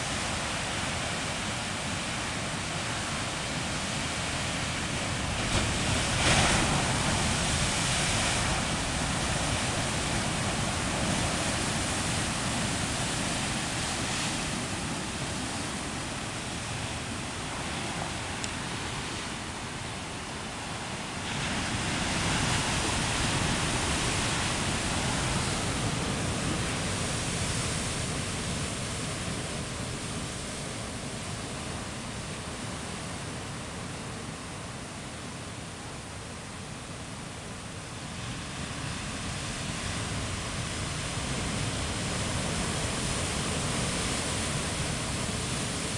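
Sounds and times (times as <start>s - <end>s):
ocean surf breaking on rocks: 0.0s - 36.2s, 37.1s - 45.9s.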